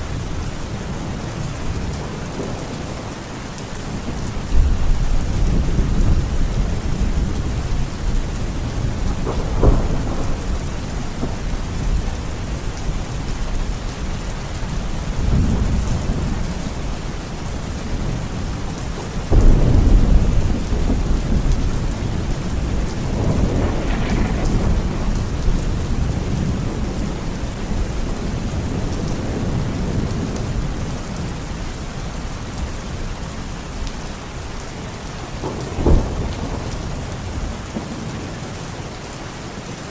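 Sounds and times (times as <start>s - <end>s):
thunder rumbling: 0.0s - 33.4s, 35.2s - 38.8s
steady rain: 0.0s - 39.9s.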